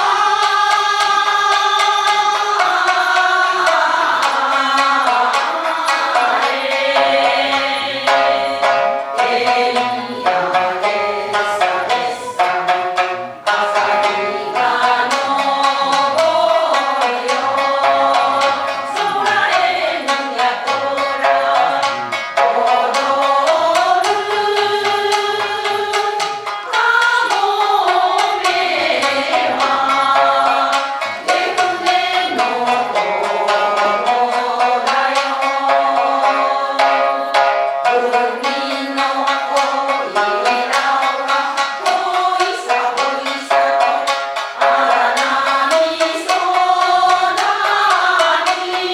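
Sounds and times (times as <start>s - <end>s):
group singing folk song: 0.0s - 48.9s
shakuhachi flute: 0.0s - 48.9s
shamisen plucking: 0.0s - 48.9s.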